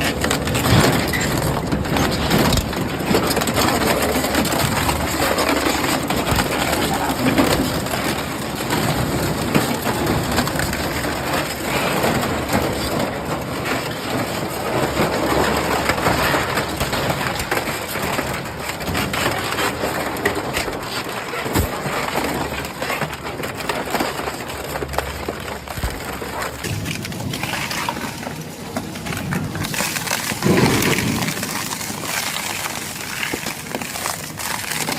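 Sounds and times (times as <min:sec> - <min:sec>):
shredder crushing scrap metal: 0:00.0 - 0:34.9.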